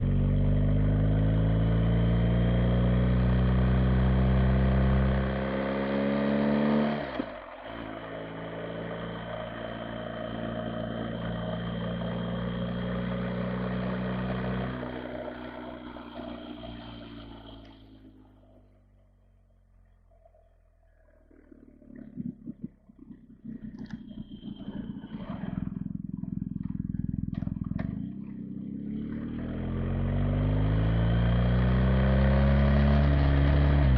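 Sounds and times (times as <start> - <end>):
motorcycle engine under load: 0.0 - 33.9.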